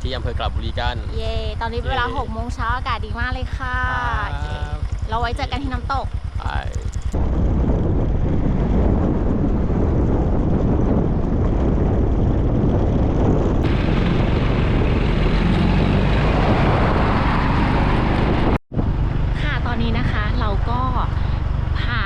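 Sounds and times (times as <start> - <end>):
moving vehicle road noise: 0.0 - 22.0
wind buffeting microphone: 0.0 - 22.0.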